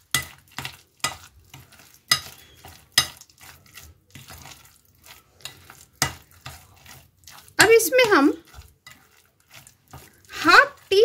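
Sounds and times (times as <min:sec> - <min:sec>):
hand squelching wet batter: 0:00.0 - 0:11.0.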